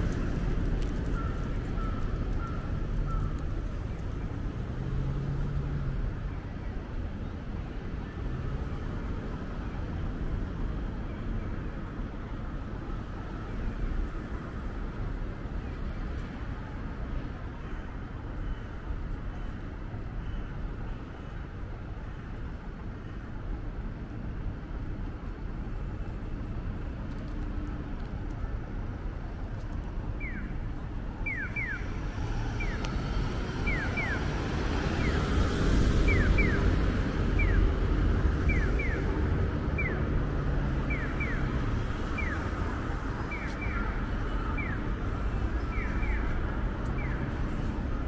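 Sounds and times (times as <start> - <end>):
street traffic rumbling: 0.0 - 48.0.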